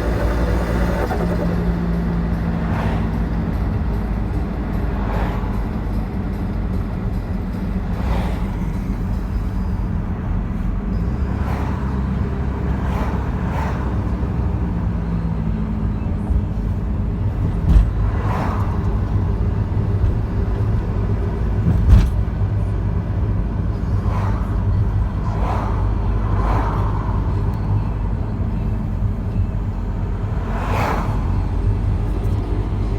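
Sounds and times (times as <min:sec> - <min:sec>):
diesel engine rumble: 0:00.0 - 0:32.9.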